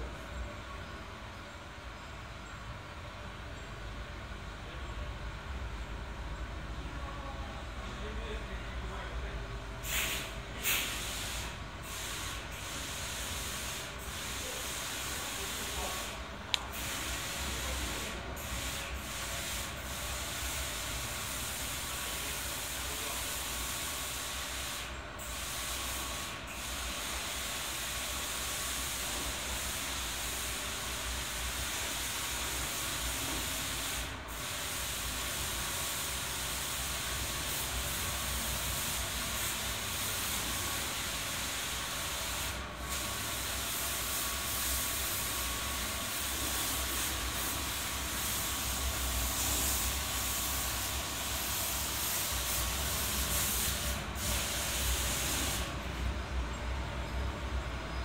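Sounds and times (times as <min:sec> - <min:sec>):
steady hiss: 0:07.8 - 0:56.1.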